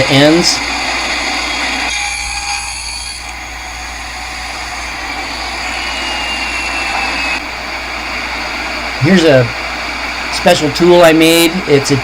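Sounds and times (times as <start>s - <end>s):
table saw cutting wood: 0.0s - 11.1s.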